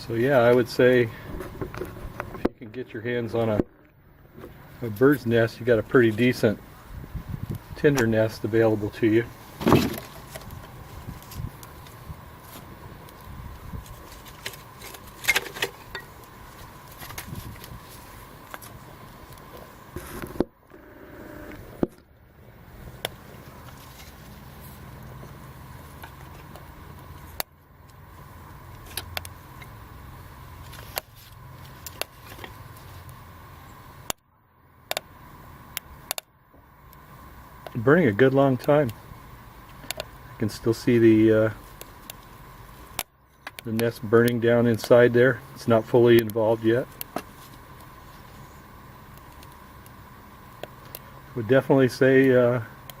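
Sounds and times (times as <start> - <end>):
low hiss: 0.0 - 53.0.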